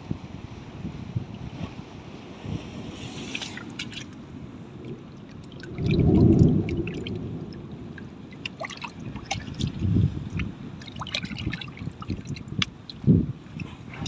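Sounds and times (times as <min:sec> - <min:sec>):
wave surging and washing back: 0:00.0 - 0:14.0
sea water sloshing at shore: 0:00.2 - 0:14.0.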